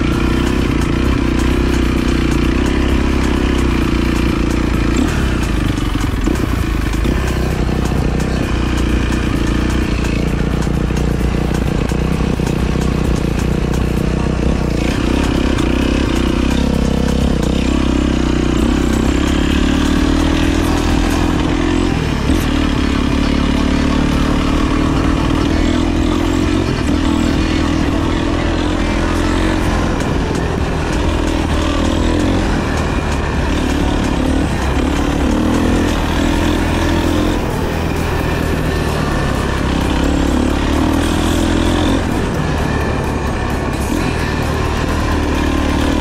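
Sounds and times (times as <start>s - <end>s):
dirt bike engine running: 0.0s - 46.0s.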